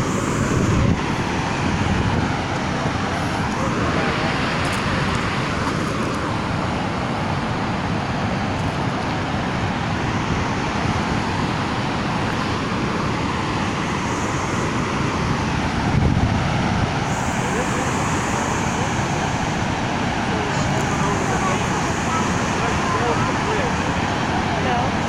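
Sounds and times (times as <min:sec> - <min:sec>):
floodwater rushing: 0:00.0 - 0:25.0.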